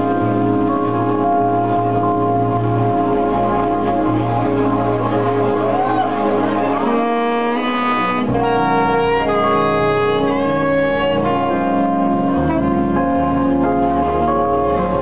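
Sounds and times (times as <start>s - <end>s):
live band playing: 0.0s - 15.0s
saxophone playing jazz melody: 0.0s - 15.0s.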